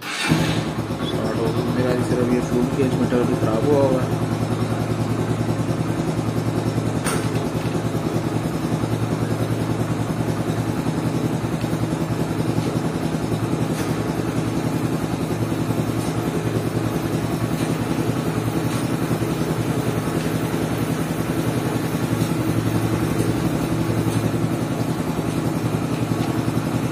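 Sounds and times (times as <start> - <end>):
motorcycle engine idling: 0.1 - 26.9.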